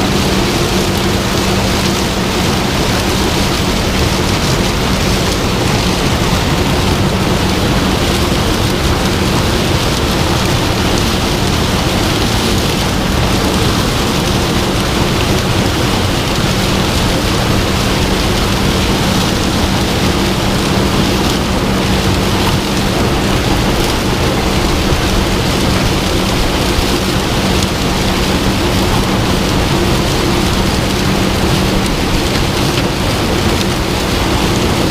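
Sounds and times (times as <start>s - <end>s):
combine harvester engine hum: 0.0s - 34.9s
rush of machine noise: 0.0s - 34.9s.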